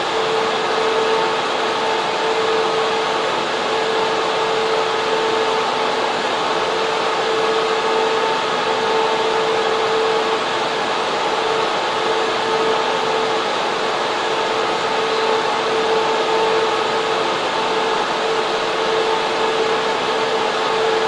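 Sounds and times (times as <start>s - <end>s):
server fans rushing: 0.0s - 21.0s
steady whine: 0.0s - 21.0s.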